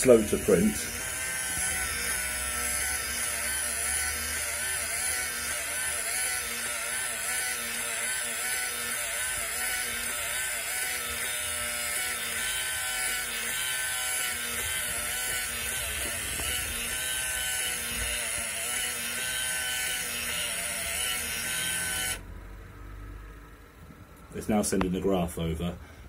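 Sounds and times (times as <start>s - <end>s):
thermal printer buzzing: 0.0s - 22.3s.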